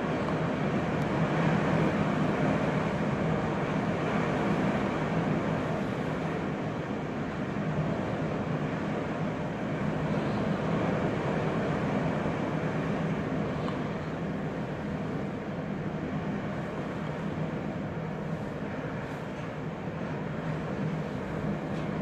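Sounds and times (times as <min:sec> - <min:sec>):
blizzard wind roaring: 0:00.0 - 0:22.0.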